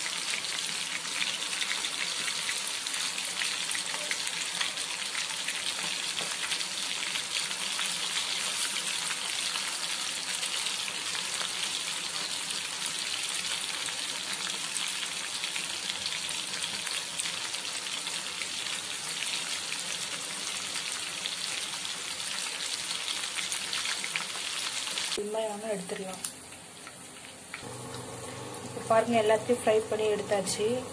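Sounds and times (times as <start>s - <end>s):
prawns deep-frying in oil: 0.0s - 30.9s.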